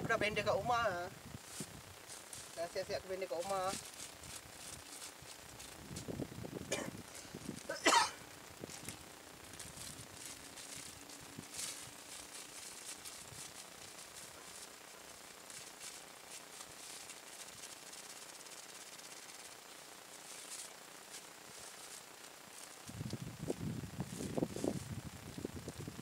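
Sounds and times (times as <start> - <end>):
prawns sizzling faintly in a pan: 0.0 - 26.0.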